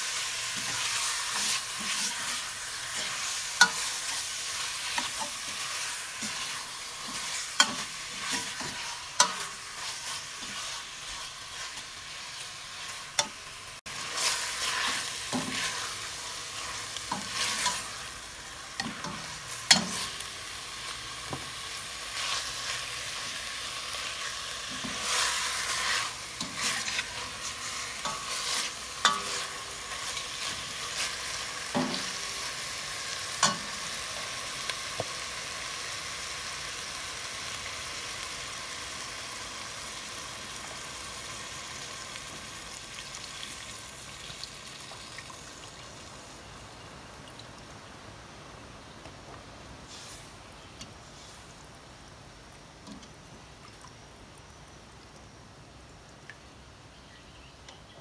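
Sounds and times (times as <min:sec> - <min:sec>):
meat sizzling in a pot: 0:00.0 - 0:47.2.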